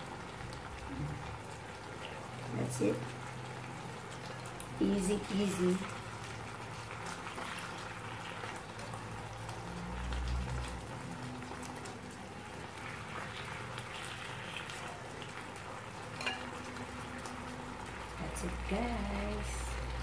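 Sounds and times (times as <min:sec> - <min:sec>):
sauce bubbling in frying pan: 0:00.0 - 0:20.0.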